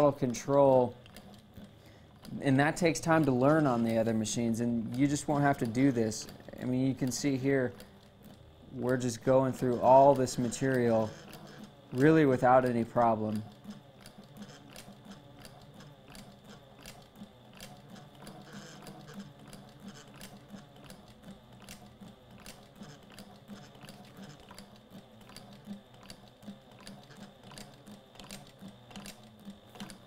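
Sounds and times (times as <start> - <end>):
sewing machine clicks: 0.0 - 30.0
sewing machine motor hum: 0.0 - 30.0.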